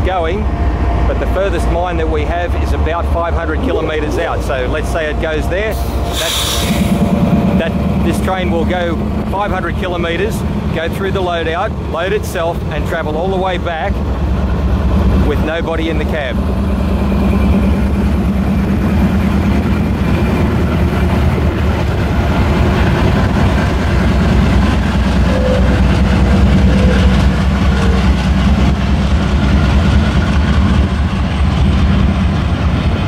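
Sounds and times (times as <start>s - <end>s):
locomotive engines droning: 0.0s - 33.0s
train wheels rolling on rails: 4.2s - 33.0s.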